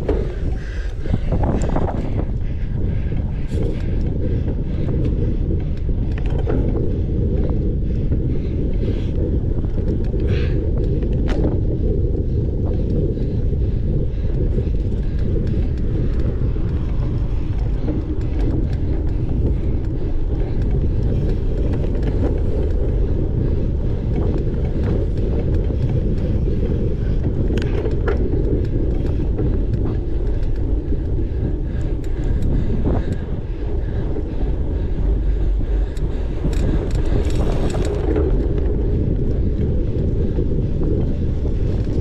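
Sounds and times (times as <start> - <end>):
bike clicking and rattling: 0.0 - 42.0
wind rushing over microphone: 0.0 - 42.0.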